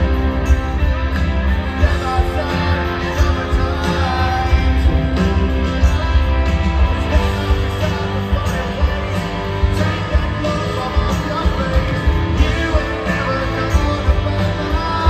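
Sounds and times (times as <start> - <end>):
drums: 0.0 - 15.0
electric guitars: 0.0 - 15.0
live rock band: 0.0 - 15.0
person singing: 1.6 - 15.0.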